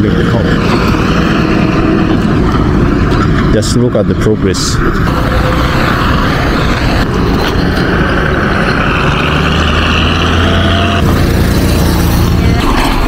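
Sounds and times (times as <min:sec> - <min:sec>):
car and motorcycle engines passing: 0:00.0 - 0:13.0
steady engine hum: 0:00.0 - 0:13.0.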